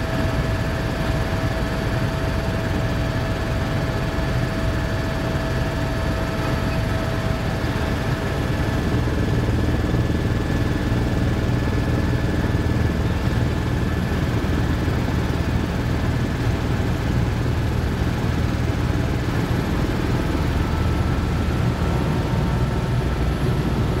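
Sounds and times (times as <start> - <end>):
faint steady whines: 0.0 - 24.0
helicopter rotor and engine drone: 0.0 - 24.0.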